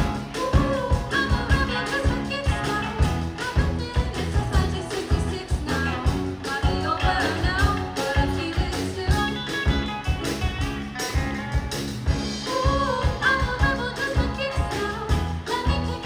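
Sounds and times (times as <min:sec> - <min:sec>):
person singing: 0:00.0 - 0:10.4, 0:12.4 - 0:16.0
drum kit beat: 0:00.0 - 0:16.0
electric guitars and bass: 0:00.0 - 0:16.0.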